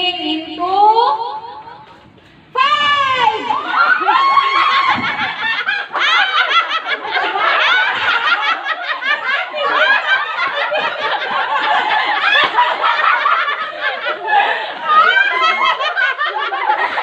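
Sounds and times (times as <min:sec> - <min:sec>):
group of people laughing loudly: 0:03.3 - 0:17.0.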